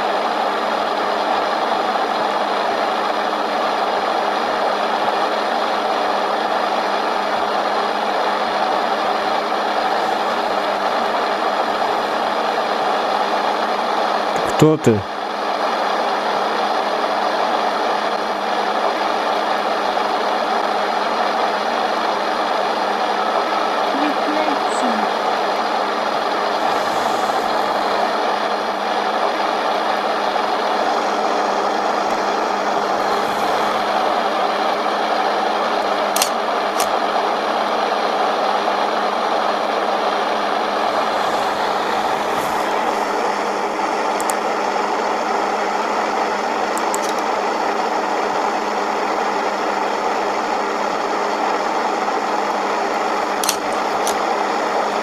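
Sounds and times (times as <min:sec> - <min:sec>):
loud static hiss: 0:06.9 - 0:15.8, 0:16.8 - 0:55.0.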